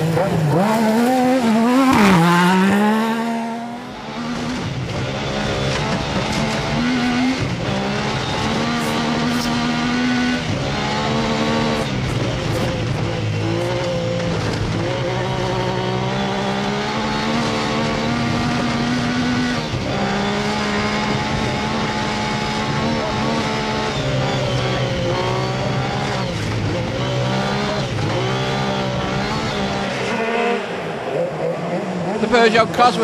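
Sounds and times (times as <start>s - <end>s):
gear changes: 0.0s - 33.0s
rally car engine under load: 0.0s - 33.0s.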